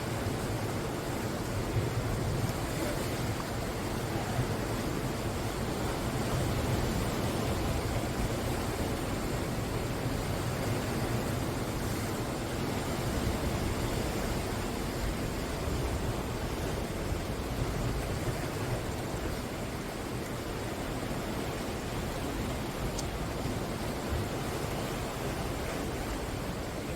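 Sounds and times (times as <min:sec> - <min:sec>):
waves breaking on shore: 0:00.0 - 0:26.9.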